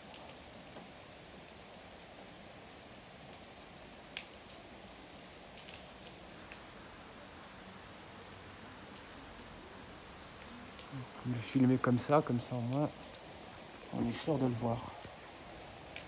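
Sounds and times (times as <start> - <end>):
faint steady rain: 0.0 - 16.0
sharp ticks of raindrops: 0.0 - 16.0.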